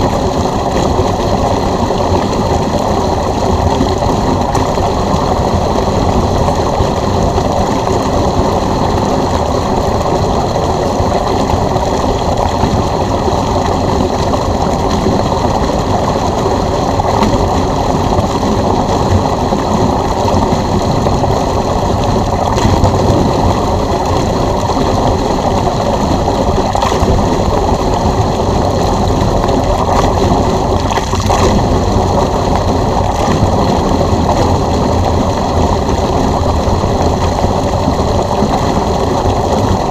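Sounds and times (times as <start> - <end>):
water rushing from drain hose: 0.0 - 39.9.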